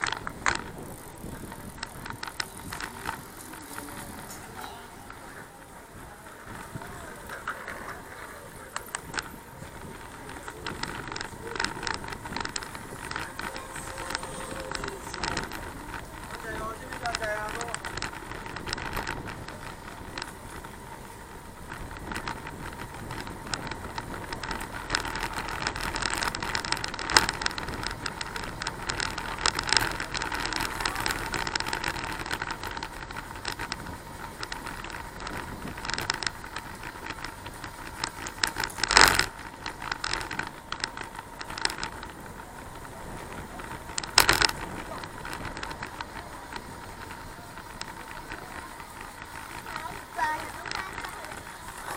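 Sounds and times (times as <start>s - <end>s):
bicycle rattling and clicking: 0.0s - 51.9s
road and wind noise: 0.0s - 51.9s.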